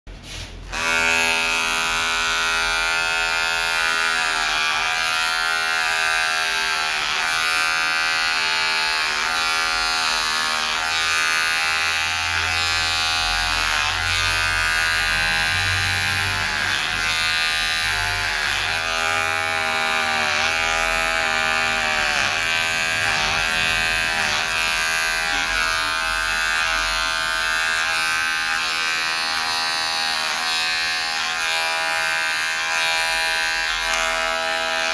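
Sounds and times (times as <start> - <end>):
electric hair clipper running: 0.2 - 34.9.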